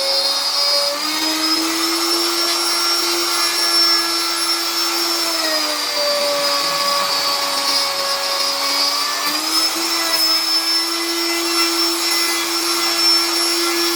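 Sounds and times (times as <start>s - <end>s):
electric wood router running: 0.0s - 13.9s.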